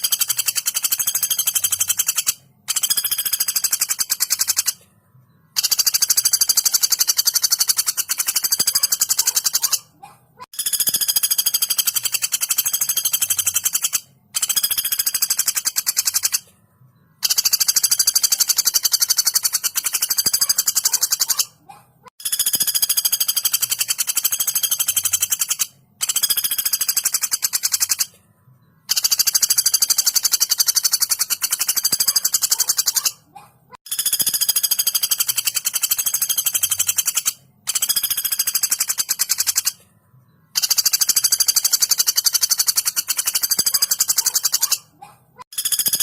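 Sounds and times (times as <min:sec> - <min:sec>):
woodpecker rattling trills: 0:00.0 - 0:16.5, 0:17.1 - 0:28.2, 0:28.8 - 0:39.8, 0:40.5 - 0:46.0.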